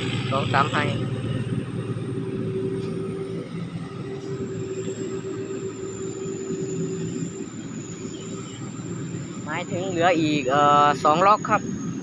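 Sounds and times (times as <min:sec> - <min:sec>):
combine harvester diesel drone: 0:00.0 - 0:12.0
high turbo whistle: 0:00.0 - 0:12.0.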